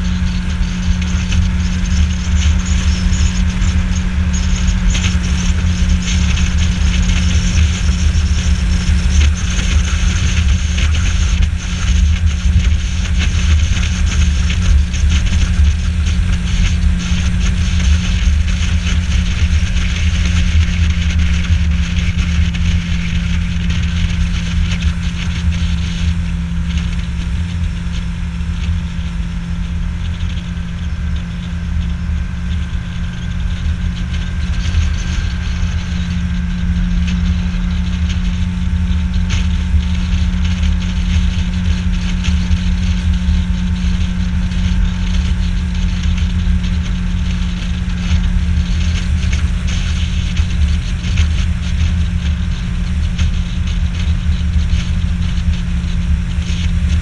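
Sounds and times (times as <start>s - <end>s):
outboard motor droning: 0.0s - 57.0s.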